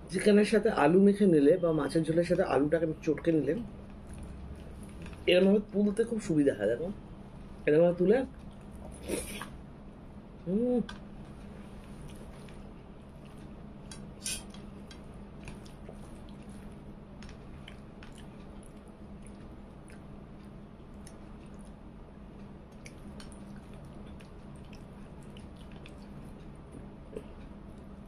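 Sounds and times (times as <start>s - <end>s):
steady low hum: 0.0s - 28.0s
soft chewing: 3.0s - 6.4s, 7.2s - 28.0s.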